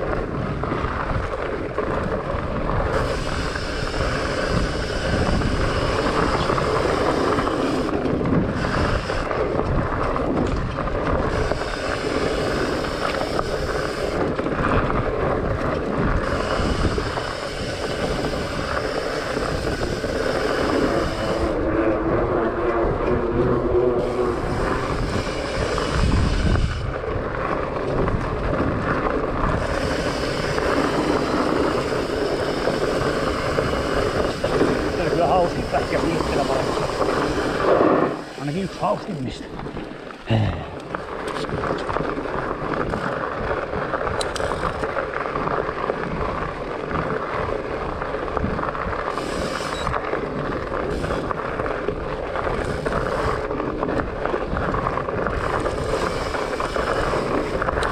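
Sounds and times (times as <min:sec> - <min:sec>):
bike rattling: 0:00.0 - 0:57.9
bike tyres crunching on dirt trail: 0:00.0 - 0:57.9
wind noise on microphone: 0:00.0 - 0:57.9.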